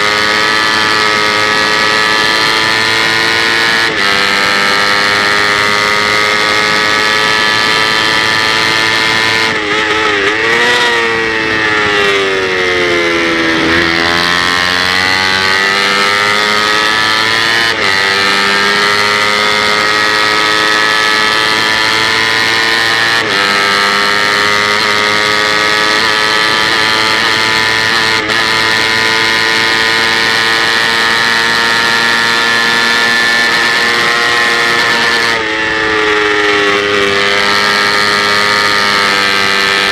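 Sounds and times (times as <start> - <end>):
motorcycle engine at high revs: 0.0 - 39.9
quick gear upshifts: 0.0 - 39.9.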